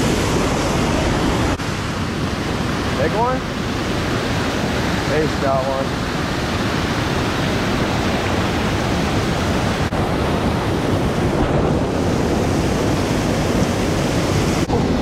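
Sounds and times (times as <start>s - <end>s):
river water rushing over dam: 0.0s - 15.0s.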